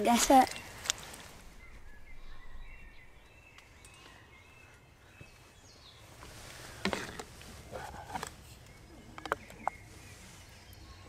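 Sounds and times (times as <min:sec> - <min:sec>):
distant birdsong: 0:00.0 - 0:11.0
woodland ambience: 0:00.0 - 0:11.0.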